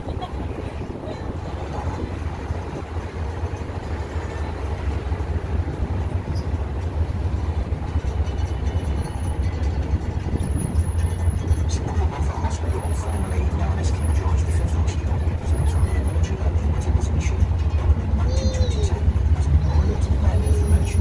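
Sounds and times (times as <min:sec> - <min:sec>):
road and carriage noise: 0:00.0 - 0:21.0
road train engine drone: 0:00.0 - 0:21.0.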